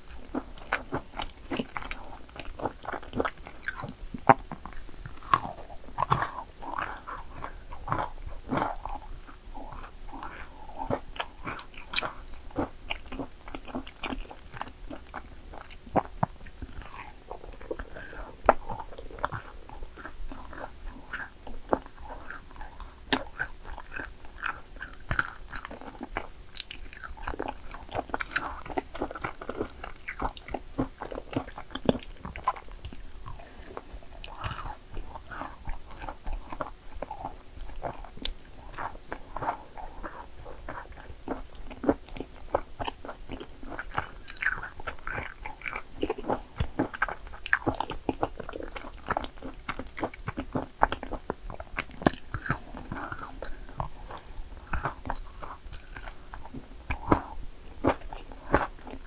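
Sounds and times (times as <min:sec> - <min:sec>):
person chewing crunchy cookies: 0:00.0 - 0:59.0.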